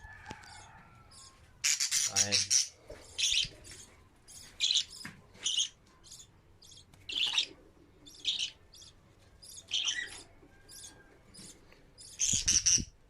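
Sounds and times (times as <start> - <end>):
budgerigars chirping: 1.1 - 12.9.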